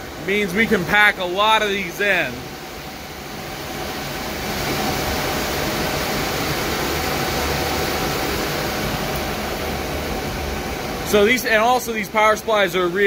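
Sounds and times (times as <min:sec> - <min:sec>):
cooling fans rushing: 0:00.0 - 0:13.0
faint steady hum: 0:00.0 - 0:13.0.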